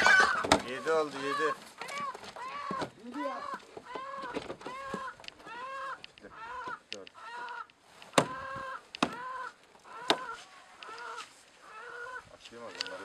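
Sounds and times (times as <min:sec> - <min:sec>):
chickens squawking and clucking: 0:00.0 - 0:13.0.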